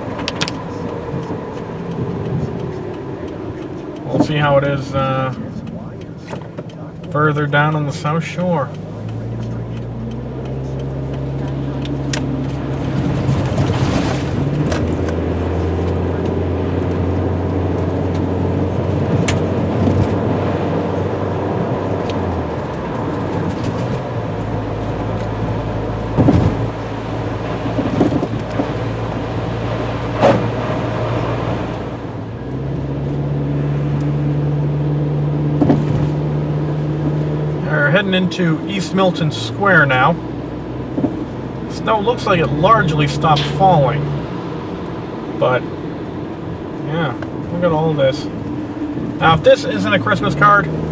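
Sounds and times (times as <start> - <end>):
car engine hum: 0.0 - 50.9
road noise inside car: 0.0 - 50.9.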